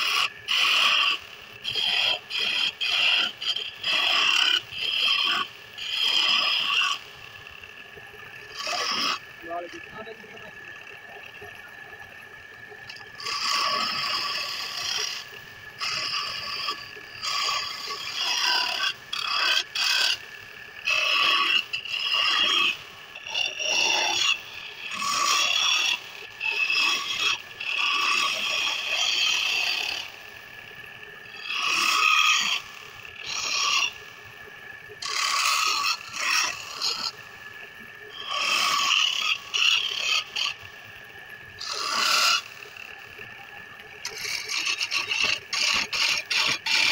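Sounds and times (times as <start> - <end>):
tool rasping on spinning wood: 0.0 - 7.1, 8.4 - 10.6, 13.2 - 30.2, 31.2 - 34.0, 35.0 - 37.2, 38.1 - 40.7, 41.6 - 43.0, 44.0 - 46.9.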